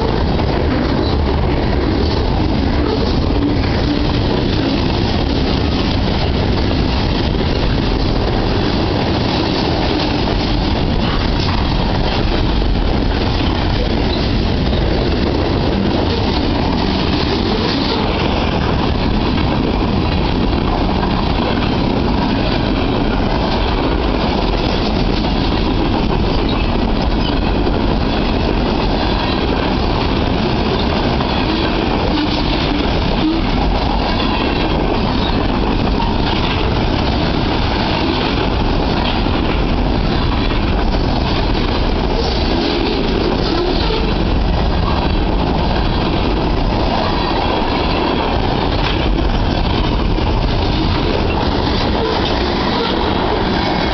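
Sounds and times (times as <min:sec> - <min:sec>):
train wheels rumbling on rails: 0:00.0 - 0:53.9
wheels clicking over rail joints: 0:00.0 - 0:53.9.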